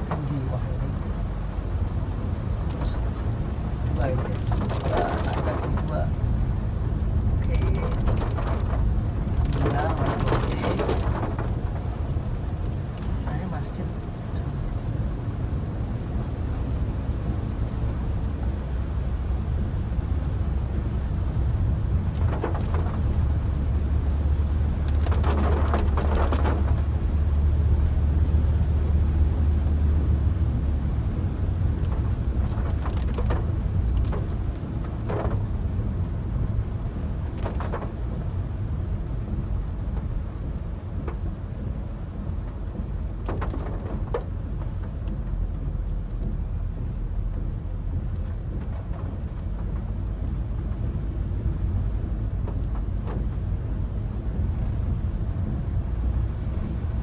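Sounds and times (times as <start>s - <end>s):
car engine drone: 0.0s - 57.0s
heavy rain on car: 0.0s - 57.0s.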